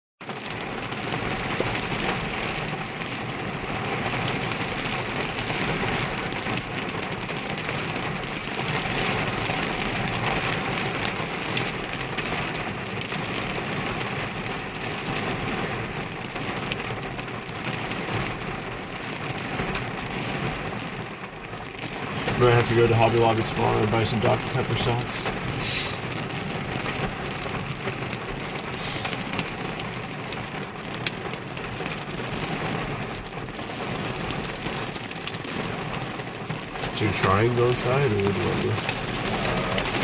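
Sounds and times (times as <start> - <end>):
heavy rain on a car roof: 0.2 - 40.0.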